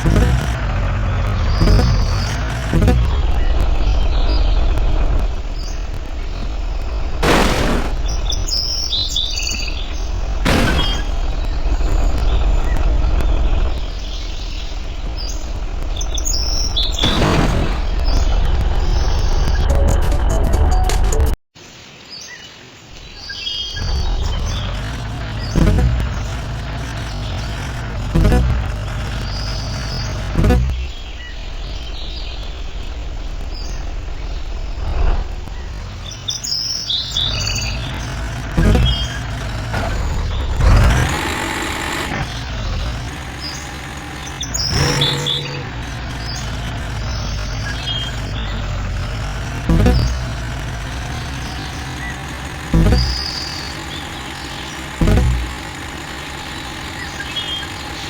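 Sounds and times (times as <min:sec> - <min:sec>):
faint birds chirping: 0:00.0 - 0:07.2, 0:07.9 - 0:19.6, 0:21.6 - 0:58.0
highway traffic rumble: 0:00.0 - 0:17.0, 0:22.9 - 0:58.0.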